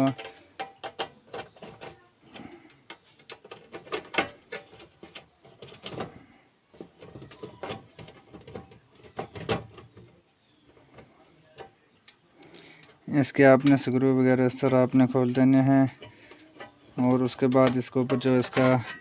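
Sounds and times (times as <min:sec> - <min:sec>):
steady high-pitched chirr: 0:00.0 - 0:19.0.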